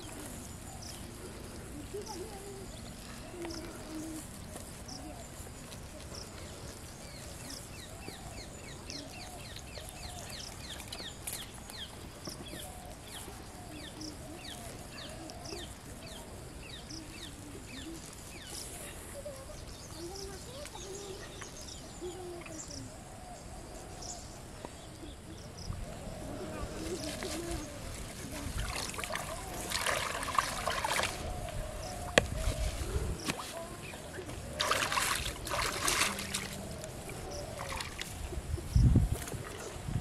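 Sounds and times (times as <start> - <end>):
birds chirping: 0.0 - 40.0
lower curved bird calls: 0.0 - 40.0
outdoor background hiss: 0.0 - 40.0.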